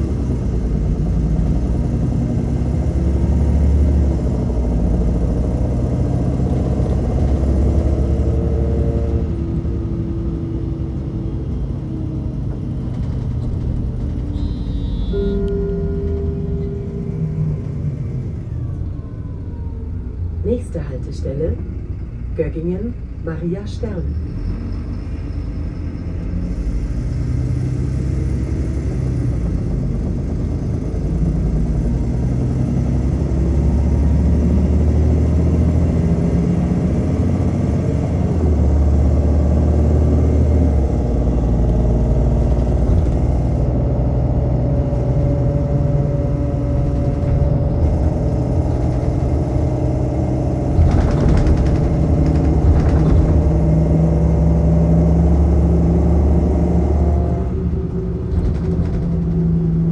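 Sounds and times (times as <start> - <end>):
bus diesel engine changing gear: 0.0 - 59.9.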